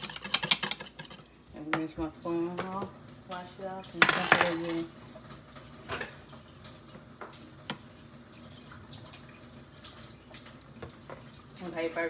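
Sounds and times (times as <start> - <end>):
faint running water from tap: 0.0 - 12.0.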